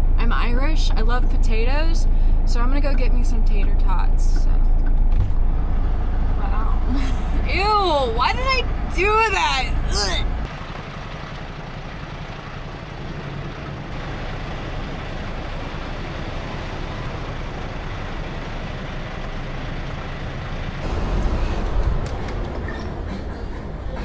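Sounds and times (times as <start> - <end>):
road noise: 0.0 - 24.0
truck engine rumble: 0.0 - 24.0.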